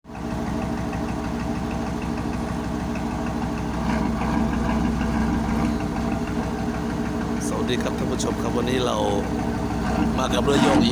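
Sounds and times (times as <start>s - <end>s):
tugboat engine knocking: 0.1s - 10.9s.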